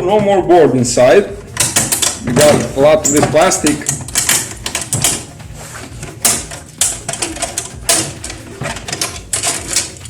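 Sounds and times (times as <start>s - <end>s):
plastic and metal parts clicking: 1.5s - 10.0s.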